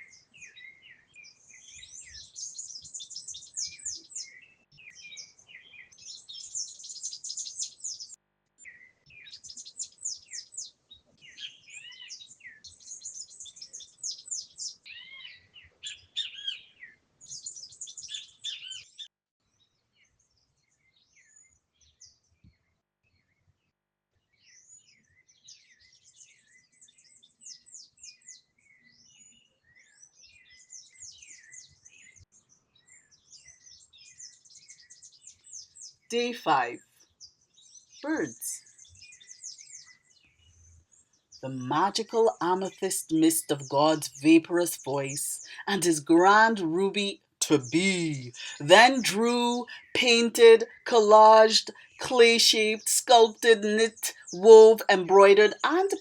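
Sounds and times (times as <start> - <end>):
small birds chirping: 0.0 - 23.6, 24.2 - 56.0.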